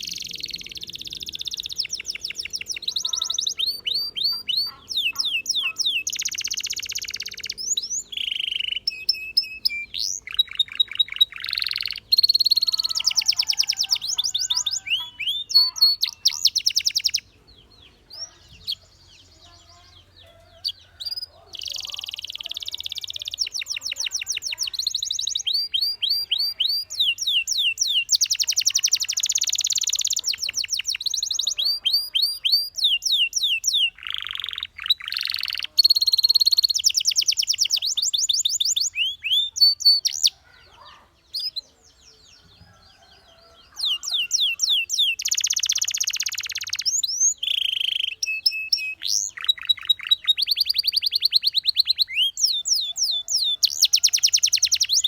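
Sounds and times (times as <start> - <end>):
canary singing in fast trills: 0.0 - 55.0.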